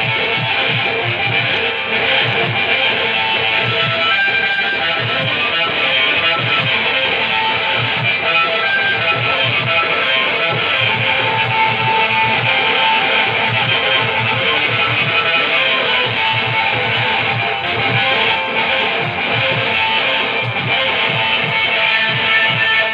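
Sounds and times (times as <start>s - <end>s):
plucked-string melody: 0.0s - 22.9s
steady drum beat: 0.0s - 22.9s.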